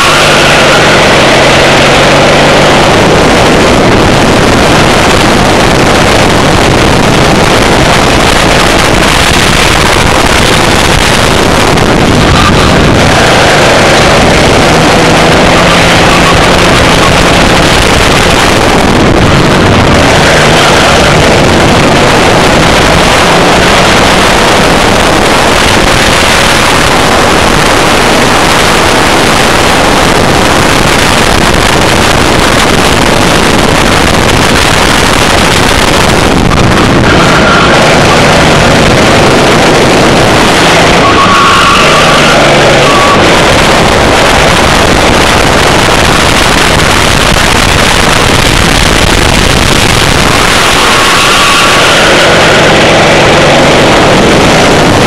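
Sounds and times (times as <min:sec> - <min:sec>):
racing kart engine running: 0:00.0 - 0:55.0
wind rushing over microphone: 0:00.0 - 0:55.0.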